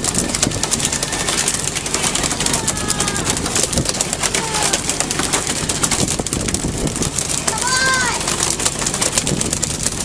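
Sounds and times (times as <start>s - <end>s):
sea: 0.0s - 10.0s
wind: 0.0s - 10.0s.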